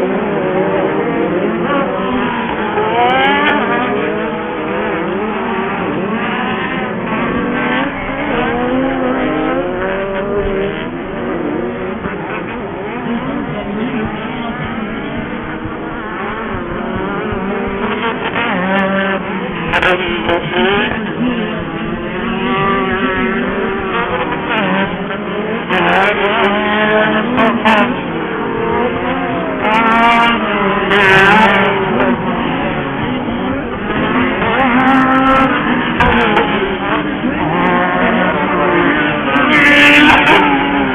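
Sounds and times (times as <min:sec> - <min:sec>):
racing buggy engines revving: 0:00.0 - 0:40.9.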